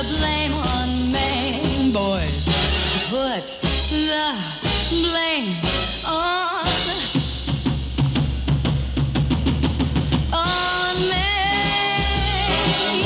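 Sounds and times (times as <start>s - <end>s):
big band playing: 0.0s - 13.0s
drum kit snare and bass drum: 0.0s - 13.0s.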